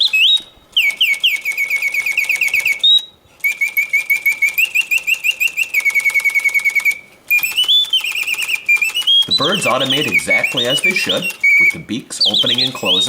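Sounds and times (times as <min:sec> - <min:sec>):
mechanical birdsong whistle trills: 0:00.0 - 0:13.0.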